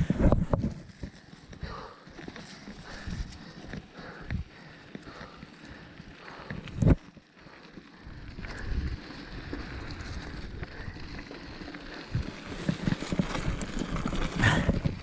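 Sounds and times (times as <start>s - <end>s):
bike rattling and knocking: 0.0s - 15.0s
bike tyre rumble on dirt: 0.0s - 15.0s.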